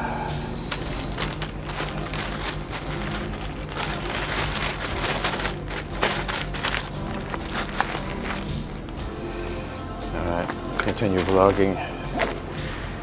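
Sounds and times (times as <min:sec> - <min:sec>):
plastic bag crinkling: 0:00.6 - 0:09.1, 0:10.3 - 0:12.6.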